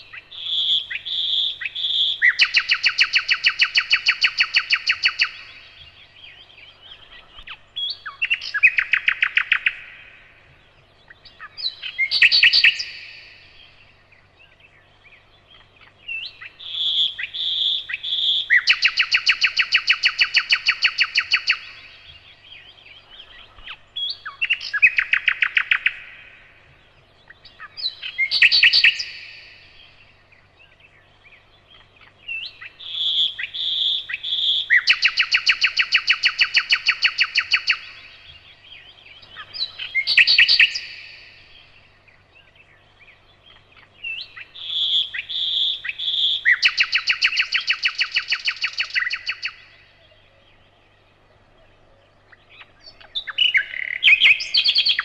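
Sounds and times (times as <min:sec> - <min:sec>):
nightingale singing: 0:00.0 - 0:55.0.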